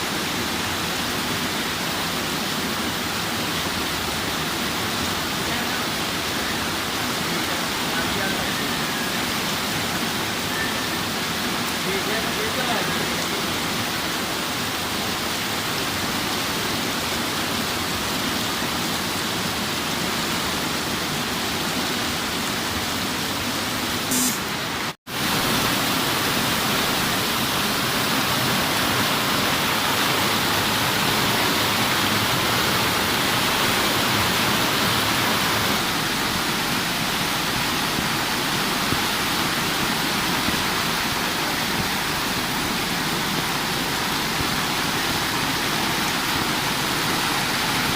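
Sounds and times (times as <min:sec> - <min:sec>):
heavy downpour hissing: 0:00.0 - 0:47.9.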